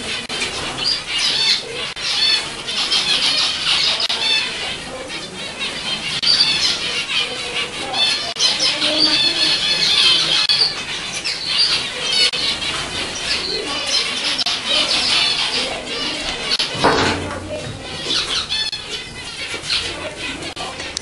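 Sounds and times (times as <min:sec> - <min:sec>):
finches chorus of calls: 0:00.0 - 0:21.0.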